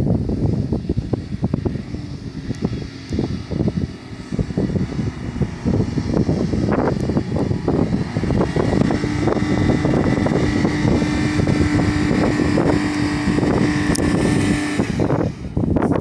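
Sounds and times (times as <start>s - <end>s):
car engine running hard: 0.0s - 16.0s
wind noise on microphone: 0.0s - 16.0s.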